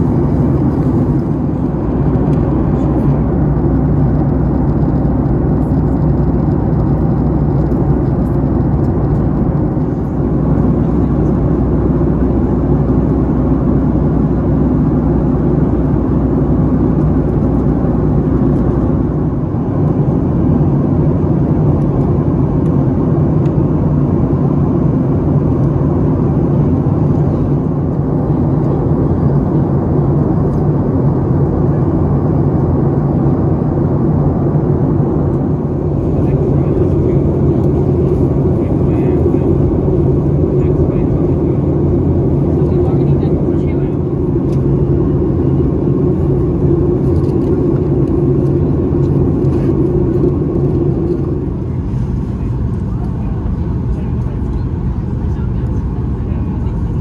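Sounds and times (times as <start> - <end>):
jet engines humming: 0.0 - 57.0.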